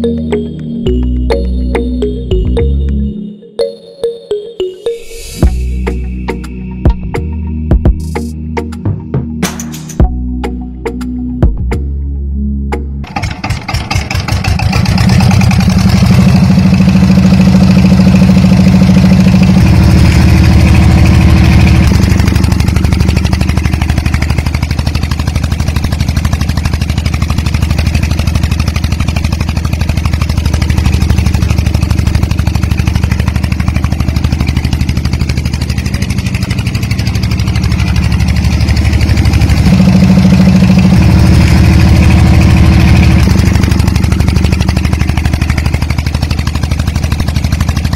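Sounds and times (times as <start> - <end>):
diesel engine chugging: 0.0 - 3.7, 5.4 - 9.4, 12.7 - 47.9.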